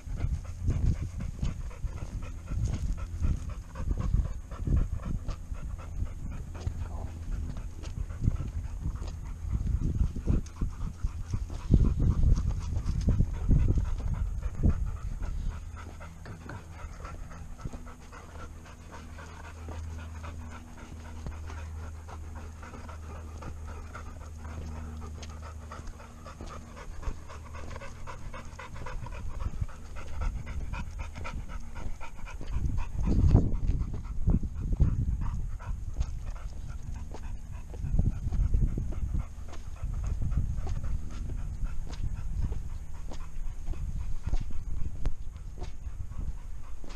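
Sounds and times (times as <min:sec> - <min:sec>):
dog panting: 0:00.0 - 0:46.9
wind and handling rumble on mic: 0:00.0 - 0:46.9.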